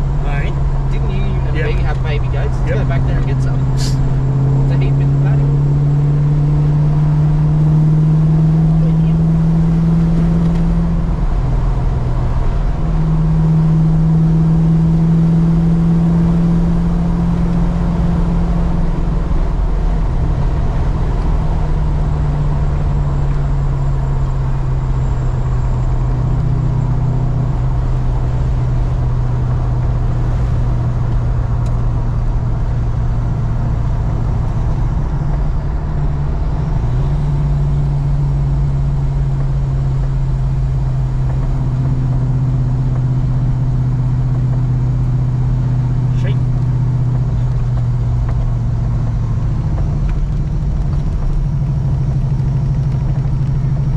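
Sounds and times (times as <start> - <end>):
car engine drone: 0.0 - 53.9
road noise: 0.0 - 53.9.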